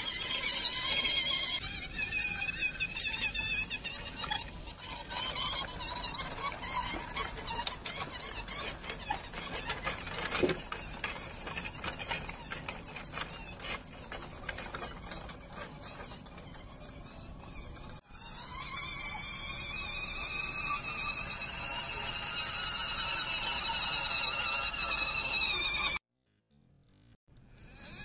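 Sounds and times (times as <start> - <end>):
model tractor squeaks and crackles: 0.0 - 26.0.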